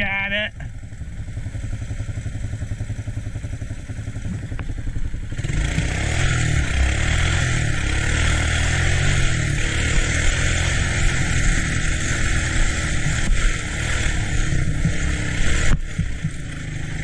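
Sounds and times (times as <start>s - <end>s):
three-wheeler engine running: 0.0s - 17.0s.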